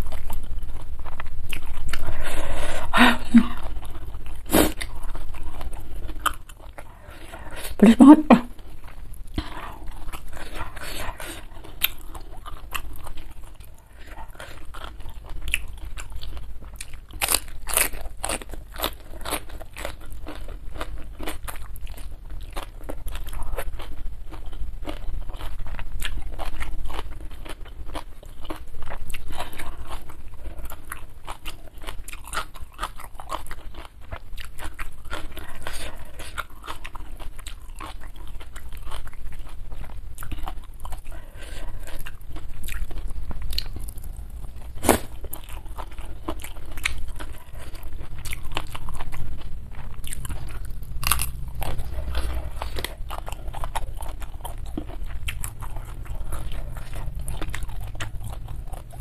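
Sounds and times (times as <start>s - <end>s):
chewing crisp vegetables: 0.0s - 59.0s.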